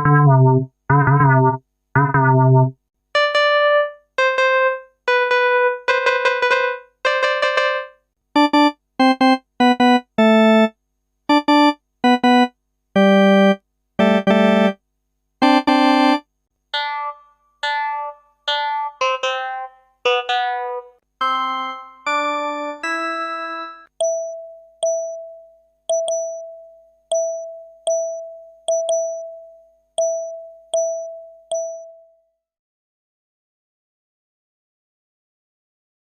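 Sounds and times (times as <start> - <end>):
synthesized keyboard notes: 0.0 - 10.7, 11.3 - 14.8, 16.8 - 32.1.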